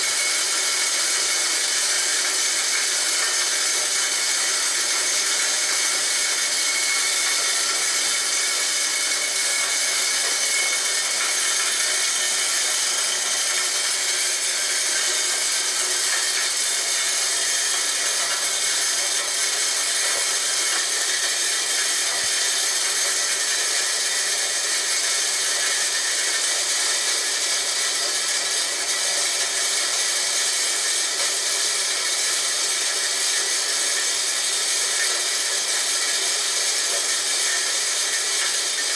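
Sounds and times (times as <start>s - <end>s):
grinder machine grinding: 0.0s - 38.9s.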